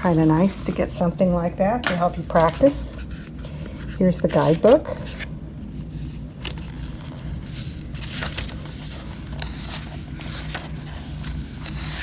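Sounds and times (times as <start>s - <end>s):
book pages rustling: 0.0s - 1.1s, 1.7s - 12.0s
steady low hum: 0.0s - 12.0s.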